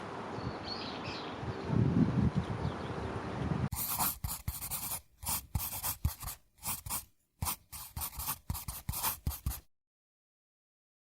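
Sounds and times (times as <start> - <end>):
faint outdoor background: 0.0 - 9.7.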